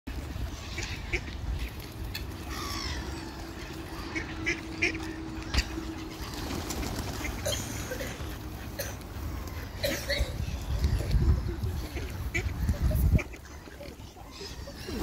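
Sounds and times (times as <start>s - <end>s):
waterbirds calling: 0.1s - 15.0s
ducks quacking: 0.5s - 1.8s, 2.5s - 15.0s.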